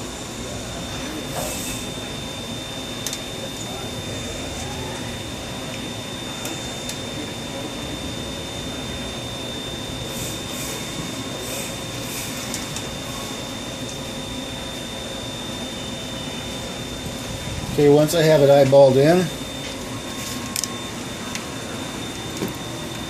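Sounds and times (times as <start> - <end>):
high-pitched whine: 0.0 - 23.0
machine hum: 0.0 - 23.0.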